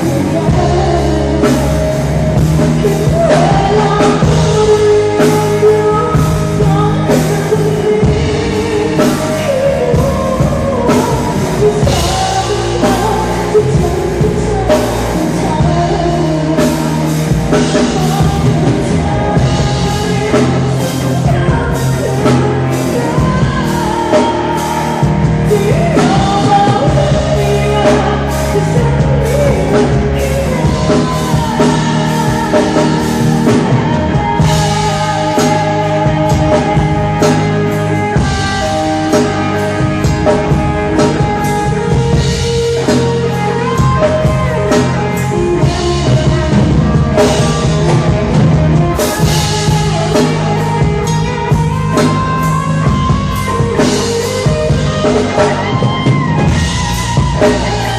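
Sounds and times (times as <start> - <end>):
person singing: 0.0 - 57.9
rock band playing: 0.0 - 57.9.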